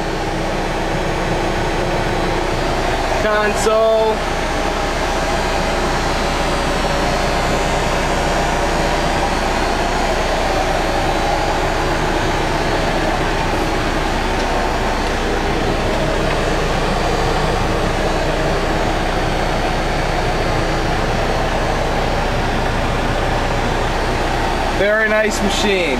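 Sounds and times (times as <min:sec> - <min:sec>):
diesel engine humming: 0:00.0 - 0:25.9.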